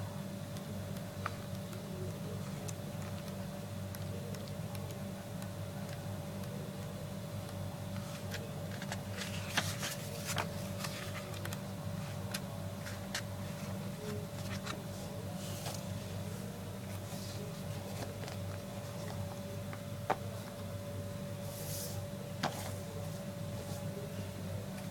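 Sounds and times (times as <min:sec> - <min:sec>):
low electrical hum: 0:00.0 - 0:24.9.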